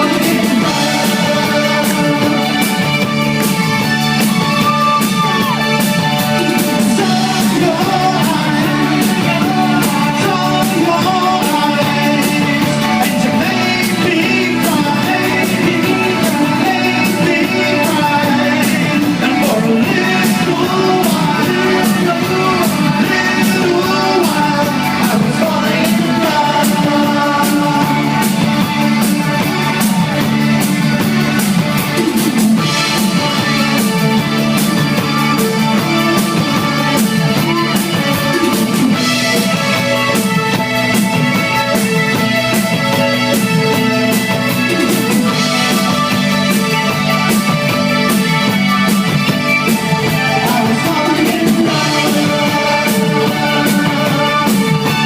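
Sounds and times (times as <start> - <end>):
chiming electric guitar: 0.0 - 55.0
person singing lead vocal: 0.0 - 55.0
steady drum beat: 0.0 - 55.0.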